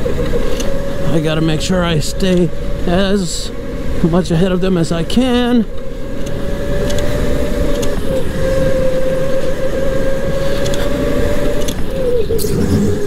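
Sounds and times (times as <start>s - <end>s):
electric motor whining: 0.0s - 13.0s
rushing noise: 0.0s - 13.0s.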